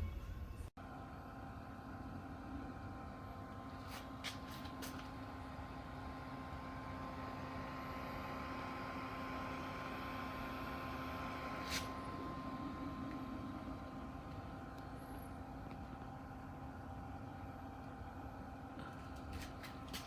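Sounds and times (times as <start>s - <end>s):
compressor fridge humming: 0.0s - 20.0s.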